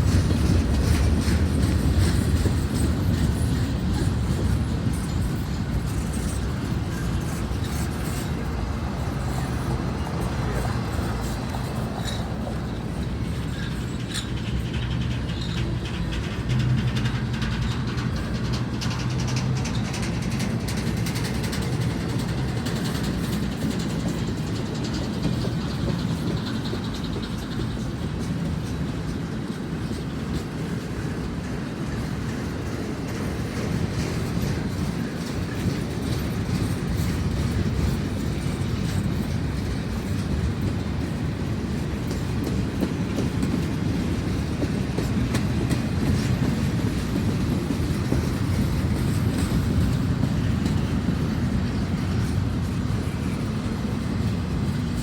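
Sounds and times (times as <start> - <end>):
wheels clicking over rail joints: 0.0 - 55.0.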